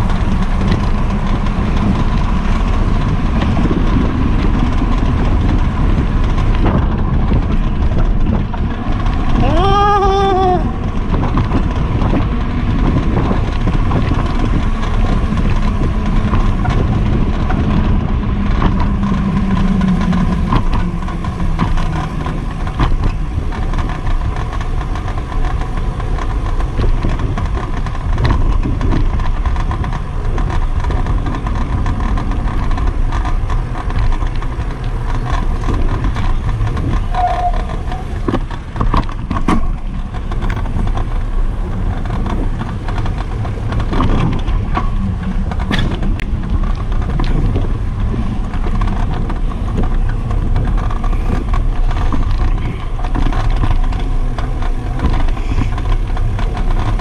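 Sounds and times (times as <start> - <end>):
car traffic: 0.0 - 57.0
wind rumbling on microphone: 0.0 - 57.0.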